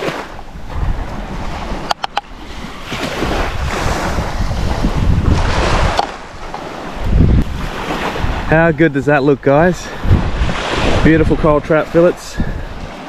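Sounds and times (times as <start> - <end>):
waves washing on shore: 0.0 - 13.0
wind buffeting microphone: 0.1 - 13.0.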